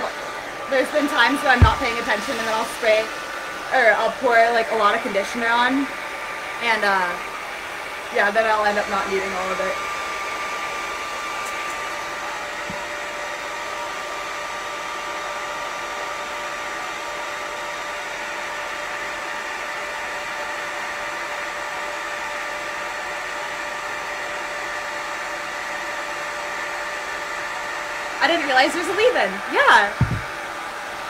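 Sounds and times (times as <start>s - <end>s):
hair dryer running: 0.0s - 31.0s.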